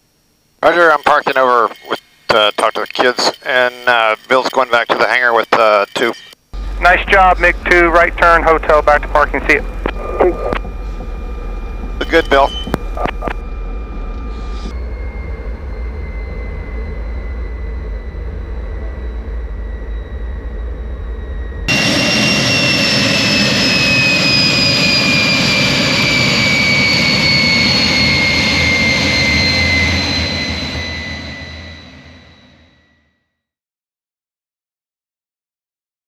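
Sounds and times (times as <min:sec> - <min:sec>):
jet engine whine: 0:00.0 - 0:33.2.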